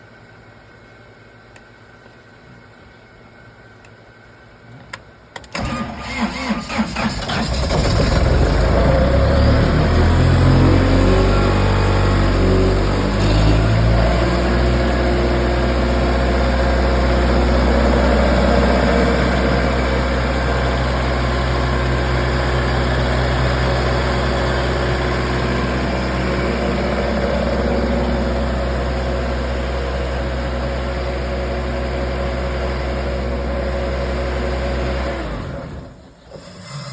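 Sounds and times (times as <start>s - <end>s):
air compressor diesel engine running: 5.5s - 36.8s.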